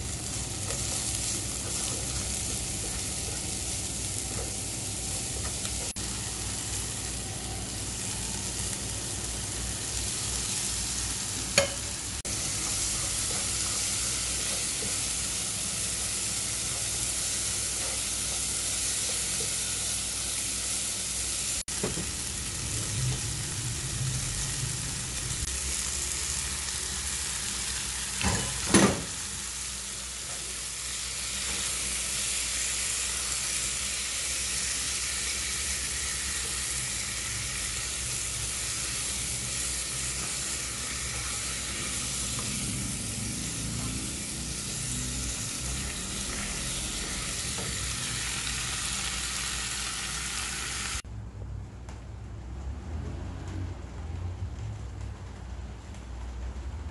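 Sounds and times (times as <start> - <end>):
food sizzling in a wok: 0.0 - 51.0.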